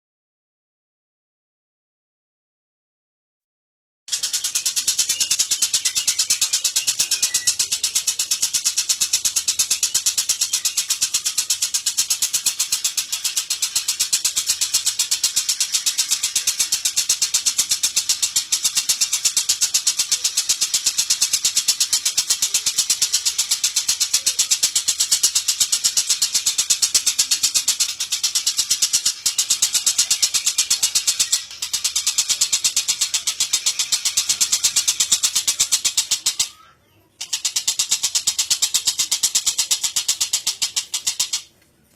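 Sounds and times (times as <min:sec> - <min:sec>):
lovebird chattering trill: 0:04.1 - 0:41.5.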